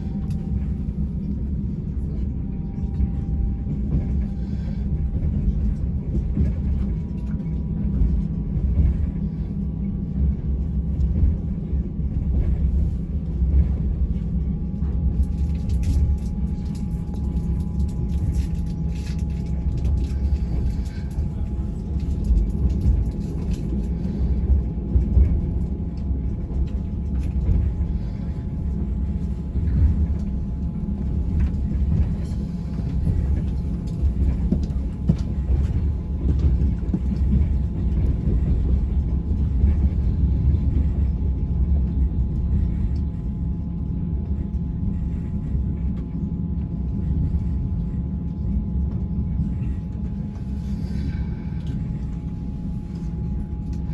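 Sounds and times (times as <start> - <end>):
train rumble: 0.0 - 53.9.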